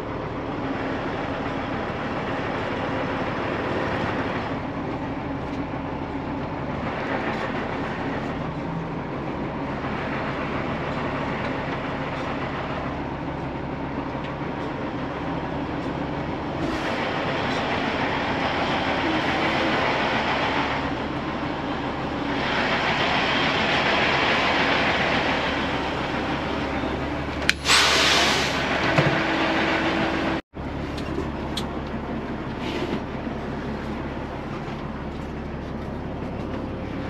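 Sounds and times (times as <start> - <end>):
truck engine rumble: 0.0 - 37.0.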